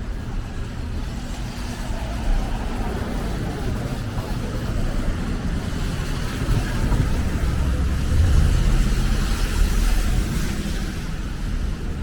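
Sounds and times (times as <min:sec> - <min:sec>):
passing vehicles rumble: 0:00.1 - 0:12.0.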